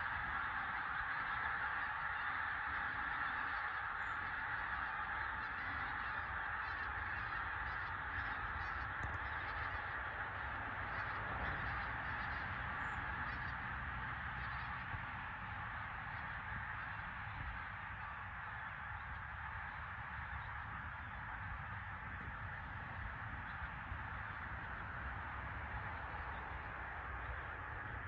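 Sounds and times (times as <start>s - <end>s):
flock of geese calling: 0.0s - 28.0s.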